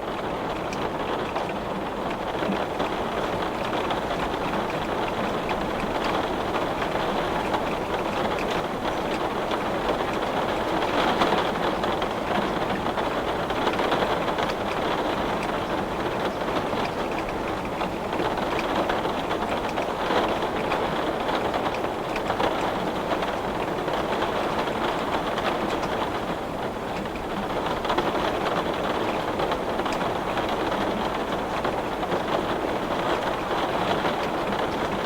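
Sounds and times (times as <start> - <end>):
heavy rain on glass: 0.0 - 35.0.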